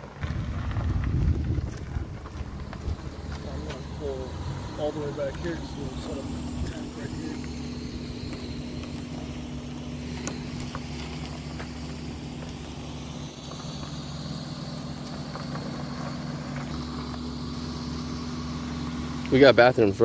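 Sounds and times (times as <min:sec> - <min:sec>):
car engine running at low speed: 0:00.0 - 0:20.0.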